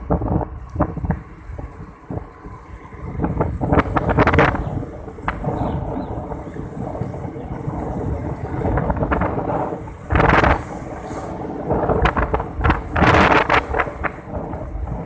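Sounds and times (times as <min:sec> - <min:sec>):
low engine hum: 0:00.0 - 0:15.0
wind buffeting microphone: 0:00.0 - 0:15.0.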